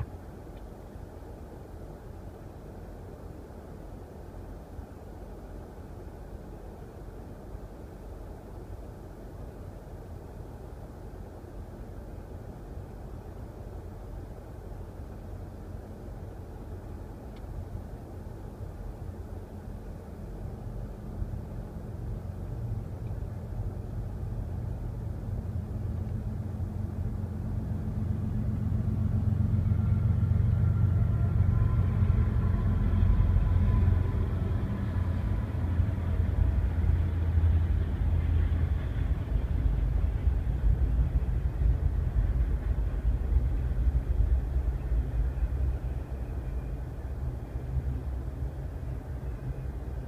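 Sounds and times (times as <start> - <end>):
diesel locomotives rumbling: 0.0 - 50.0
freight cars rolling by: 0.0 - 50.0.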